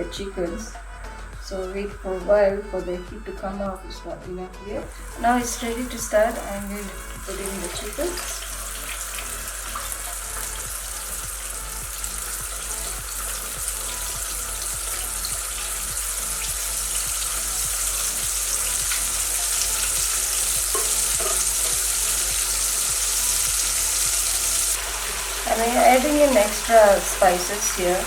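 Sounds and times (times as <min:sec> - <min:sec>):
chicken sizzling in hot oil: 0:04.9 - 0:28.0.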